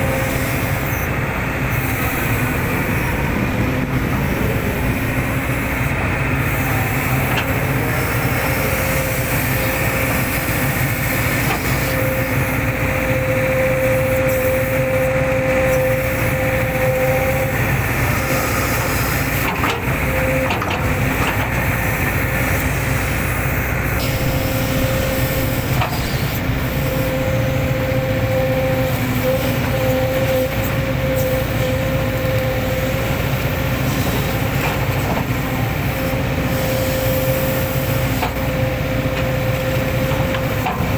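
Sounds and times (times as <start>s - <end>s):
excavator diesel engine: 0.0s - 40.9s
hydraulic whine: 0.0s - 40.9s.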